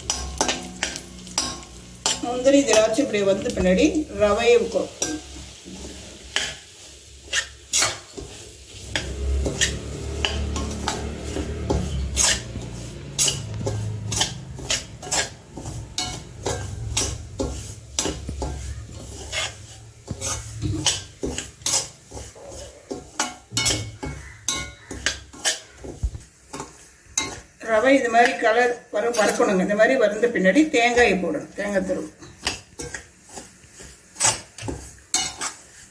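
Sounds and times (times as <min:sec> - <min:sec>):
metal spoon scraping pan: 0:00.0 - 0:35.9.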